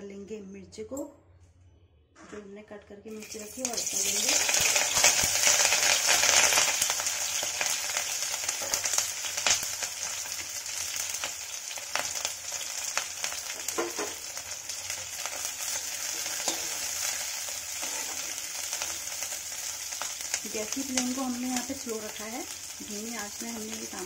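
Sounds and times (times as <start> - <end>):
chillies sizzling in hot oil: 3.1 - 24.0.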